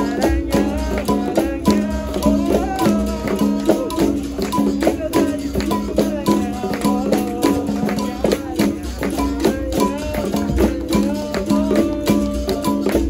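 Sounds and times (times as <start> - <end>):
person singing: 0.0 - 13.0
shaker rattles: 0.0 - 13.0
tambourine strokes: 0.0 - 13.0.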